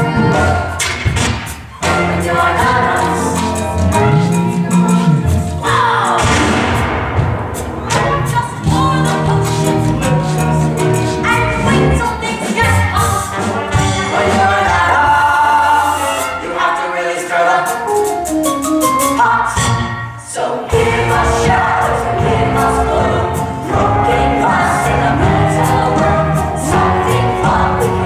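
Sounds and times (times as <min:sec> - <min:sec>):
musical accompaniment: 0:00.0 - 0:28.0.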